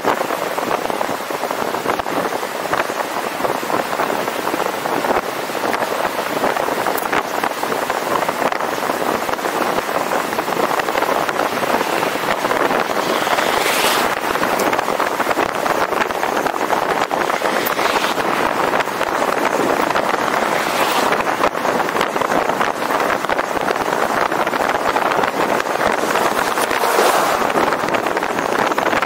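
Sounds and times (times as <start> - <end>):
road and wind noise: 0.0 - 29.0.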